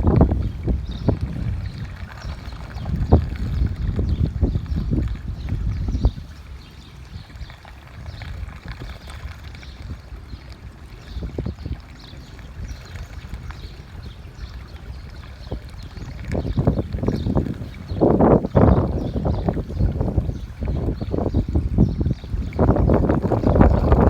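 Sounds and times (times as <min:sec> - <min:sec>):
pool water lapping: 0:00.0 - 0:24.0
wind buffeting microphone: 0:00.0 - 0:24.0.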